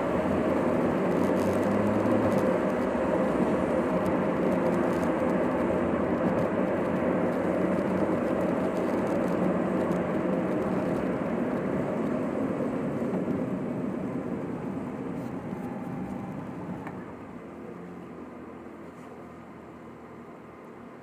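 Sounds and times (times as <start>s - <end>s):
car engine hum: 0.0s - 21.0s
road noise: 0.0s - 21.0s.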